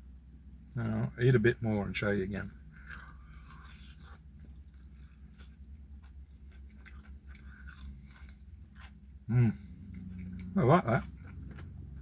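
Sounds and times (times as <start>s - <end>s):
faint low hum: 0.0s - 12.0s
person chewing crunchy food: 2.3s - 12.0s.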